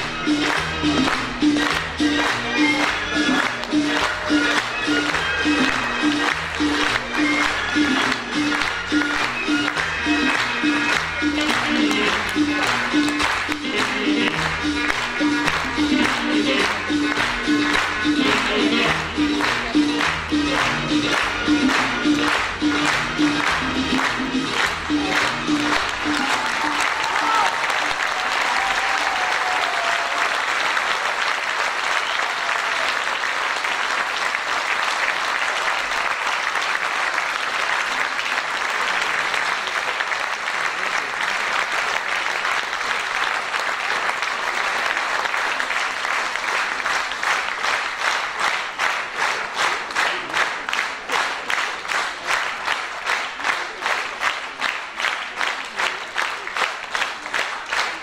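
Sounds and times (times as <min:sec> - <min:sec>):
audience applauding: 0:00.0 - 0:58.0
rhythmic clapping in unison: 0:00.0 - 0:58.0.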